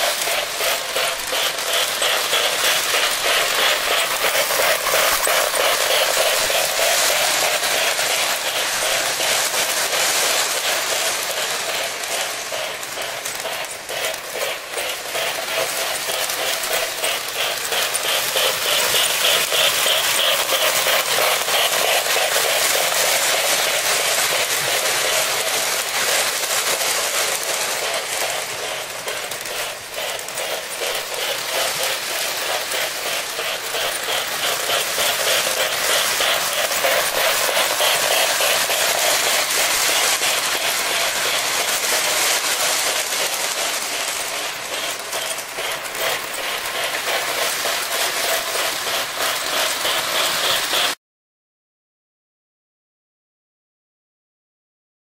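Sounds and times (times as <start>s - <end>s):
model train rattling on track: 0.0s - 51.0s.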